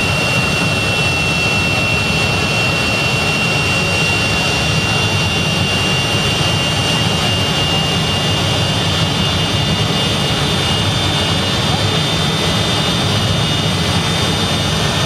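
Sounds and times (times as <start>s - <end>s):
jet engine roaring with high whine: 0.0s - 15.0s.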